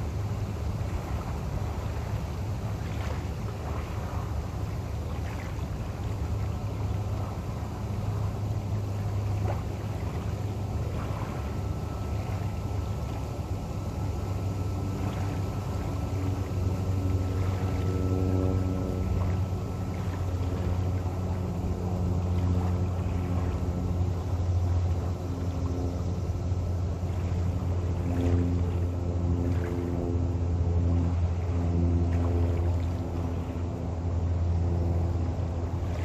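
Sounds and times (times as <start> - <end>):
boat engine rumble: 0.0 - 36.0
pitched hum: 0.0 - 36.0.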